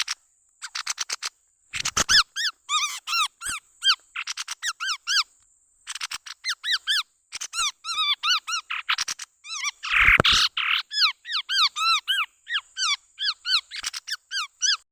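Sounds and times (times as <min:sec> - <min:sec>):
bird squeaky calls: 0:00.0 - 0:14.8.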